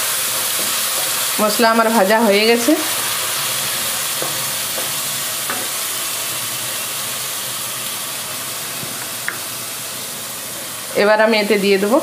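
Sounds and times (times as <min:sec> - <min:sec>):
paste sizzling in oil: 0:00.0 - 0:12.0.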